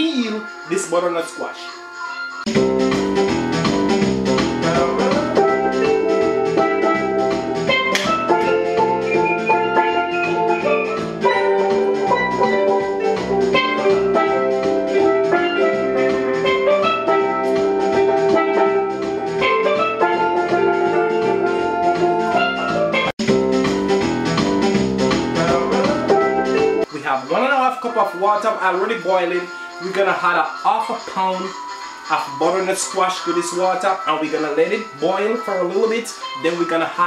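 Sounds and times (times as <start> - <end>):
background music with steady beat: 0.0 - 37.0.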